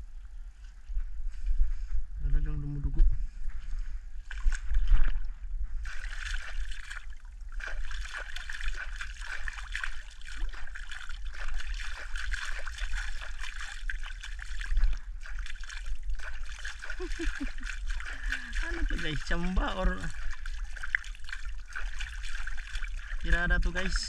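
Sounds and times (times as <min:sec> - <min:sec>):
water splashing and trickling: 0:04.2 - 0:24.0.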